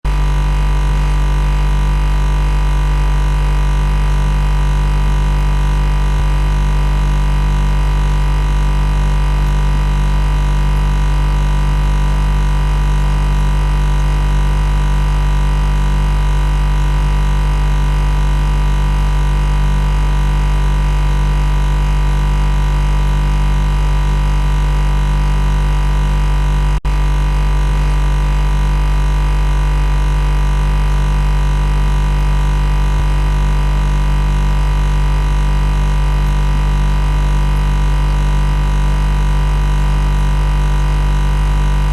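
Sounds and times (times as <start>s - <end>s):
electrical machine hum: 0.1s - 41.9s.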